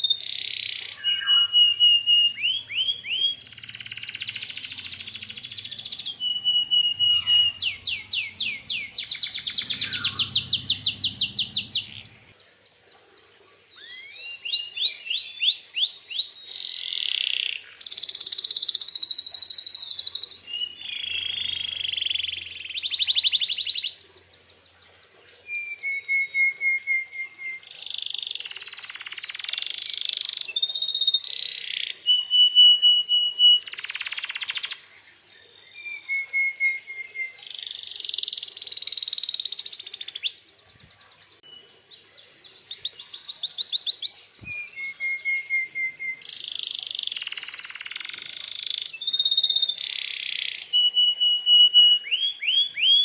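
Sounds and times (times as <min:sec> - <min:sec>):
canary singing: 0:00.0 - 0:12.3, 0:13.8 - 0:24.0, 0:25.6 - 0:34.8, 0:35.8 - 0:40.4, 0:41.4 - 0:53.0.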